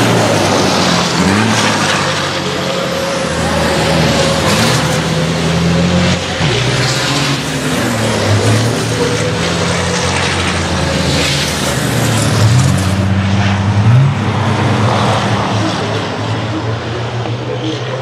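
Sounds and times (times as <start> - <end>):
racing trucks passing: 0.0 - 18.0.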